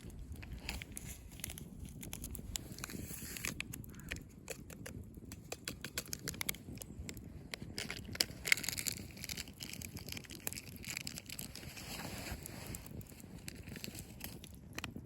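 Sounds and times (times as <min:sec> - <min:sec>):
low steady rumble: 0:00.0 - 0:14.9
wood fire crackling: 0:00.0 - 0:15.0.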